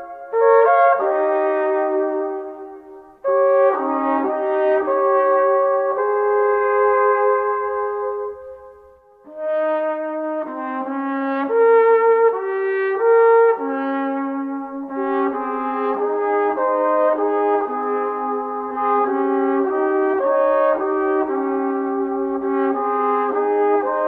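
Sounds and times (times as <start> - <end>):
brass ensemble playing chords: 0.0 - 24.0.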